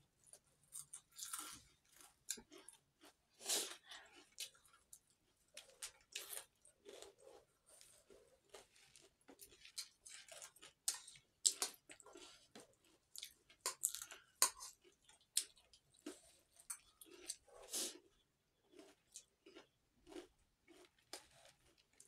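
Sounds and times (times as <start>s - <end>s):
crunchy chewing: 0.3s - 22.0s.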